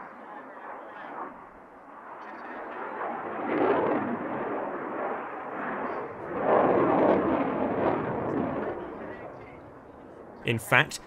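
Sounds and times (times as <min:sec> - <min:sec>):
jet engine roaring overhead: 0:00.0 - 0:11.0.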